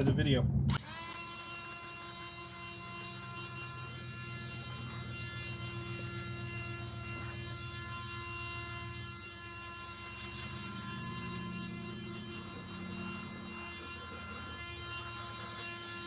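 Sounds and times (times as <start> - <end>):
inflator blower running: 0.0 - 16.0.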